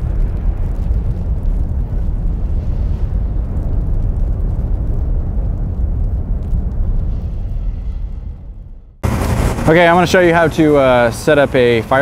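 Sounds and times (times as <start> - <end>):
loud low rumbling: 0.0 - 12.0.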